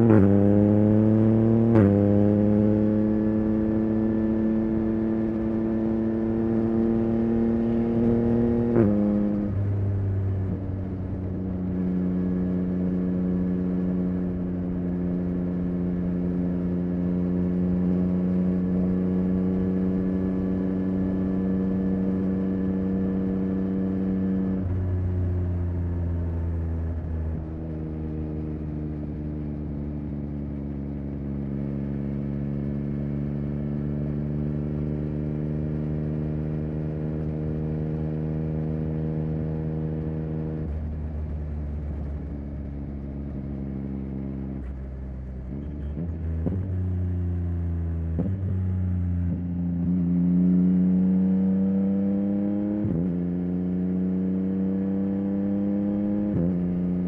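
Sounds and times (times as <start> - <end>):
motorcycle engine exhaust note: 0.0 - 57.0.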